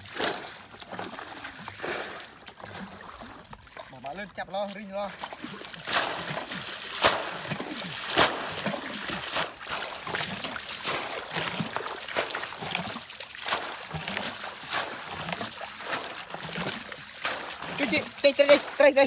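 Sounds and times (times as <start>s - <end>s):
muddy water splashing: 0.0s - 19.0s.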